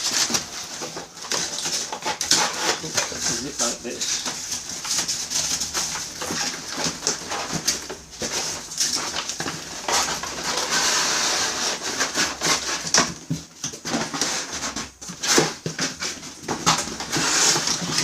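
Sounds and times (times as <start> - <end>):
plastic and cardboard rustling: 0.0 - 18.0.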